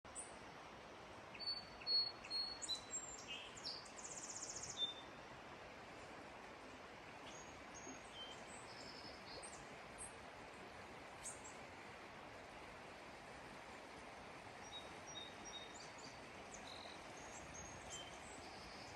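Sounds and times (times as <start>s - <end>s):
faint outdoor hiss: 0.1s - 18.9s.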